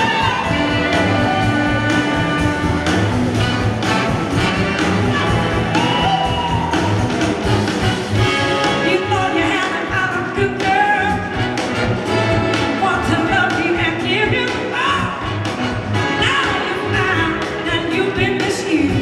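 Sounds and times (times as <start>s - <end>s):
soul and blues-rock band playing: 0.0s - 19.0s.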